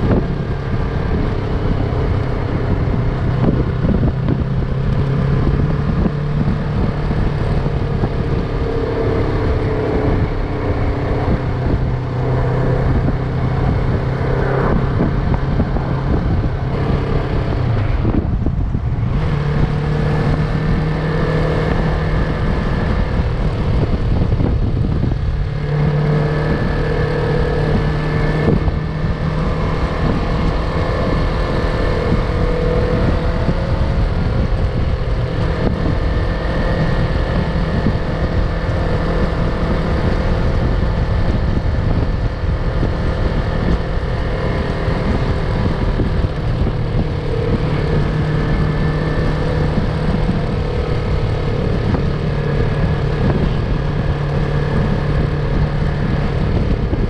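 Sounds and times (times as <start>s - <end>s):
motorcycle engine cruising: 0.0s - 57.0s
wind rumbling across microphone: 0.0s - 57.0s.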